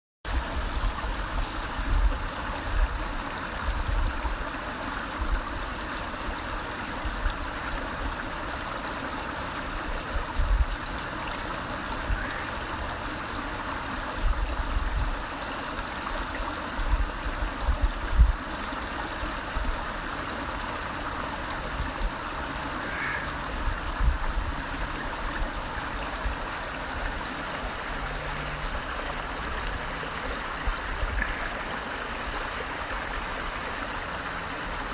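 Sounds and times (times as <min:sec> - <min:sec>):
creek babbling over rocks: 0:00.3 - 0:34.9.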